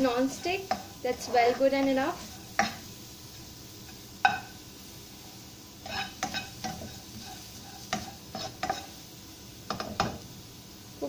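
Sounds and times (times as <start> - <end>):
spatula scraping onion in wok: 0.0 - 10.4.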